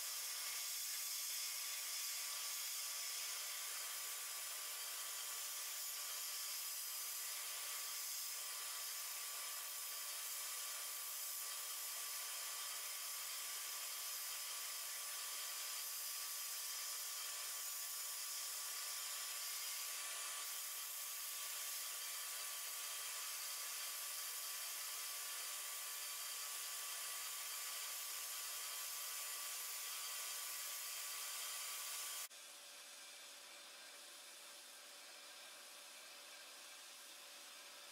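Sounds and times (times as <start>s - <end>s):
sandblaster hissing: 0.0s - 32.3s.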